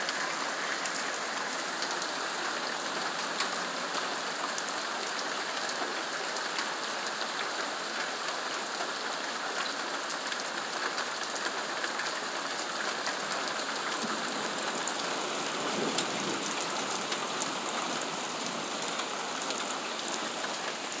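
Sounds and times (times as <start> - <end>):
raindrops ticking on surfaces: 0.0 - 21.0
steady rain falling: 0.0 - 21.0.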